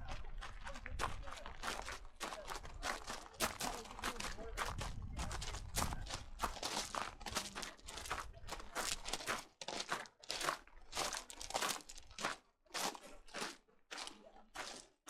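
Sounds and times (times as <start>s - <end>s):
footsteps crunching on gritty ground: 0.0s - 15.0s.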